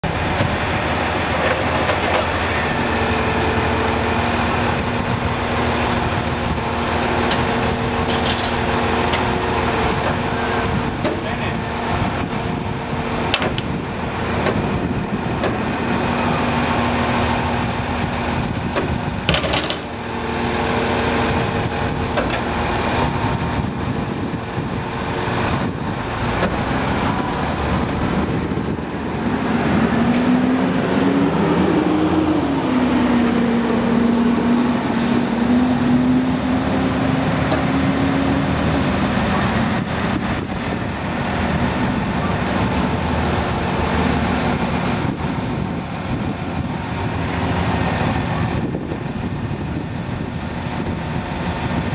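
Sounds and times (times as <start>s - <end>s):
crane engine running: 0.0s - 51.9s.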